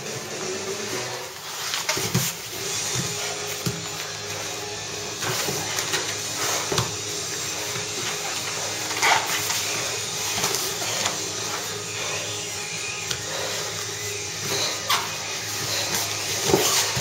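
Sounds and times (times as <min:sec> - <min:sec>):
bodies scuffling on foam mats: 0:01.4 - 0:17.0.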